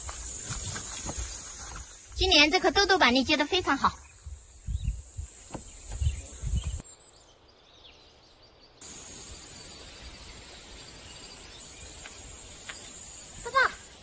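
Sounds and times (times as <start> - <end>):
insects droning: 0.0 - 7.7, 8.7 - 14.0.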